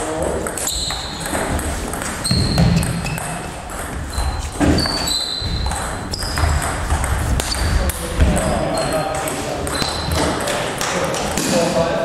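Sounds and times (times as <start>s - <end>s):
table tennis ball pinging: 0.4s - 11.5s.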